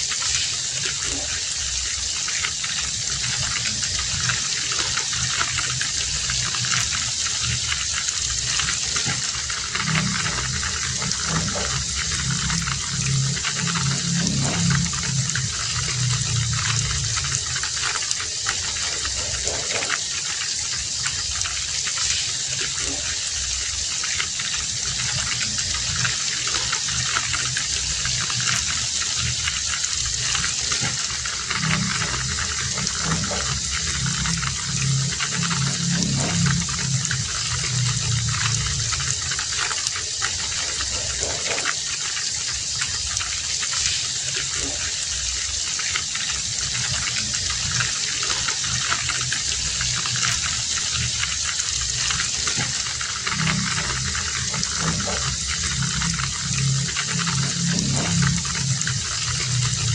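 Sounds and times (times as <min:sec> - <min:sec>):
heavy rain falling: 0:00.0 - 0:59.9
deep rumbling: 0:02.8 - 0:20.2, 0:24.5 - 0:41.8, 0:46.4 - 0:59.9.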